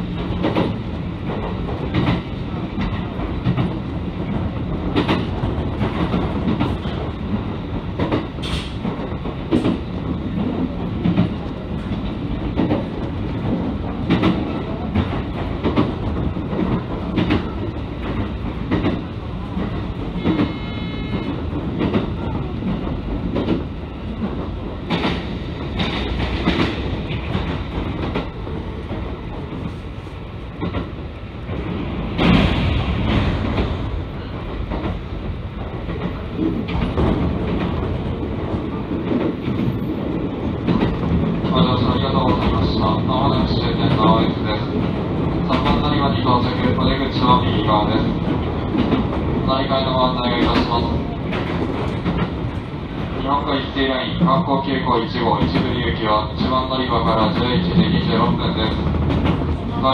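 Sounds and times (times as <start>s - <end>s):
wheels clacking over rail joints: 0.0s - 29.7s, 30.5s - 54.4s, 55.0s - 59.8s
train running noise: 0.0s - 59.9s.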